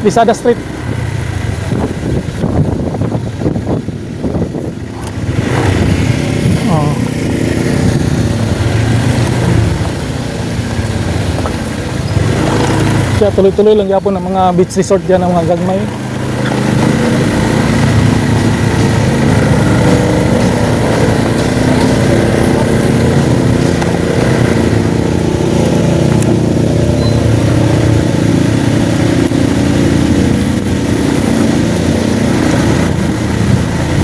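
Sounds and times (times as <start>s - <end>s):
road and wind noise: 0.0s - 34.0s
vehicle engine running: 0.0s - 34.0s.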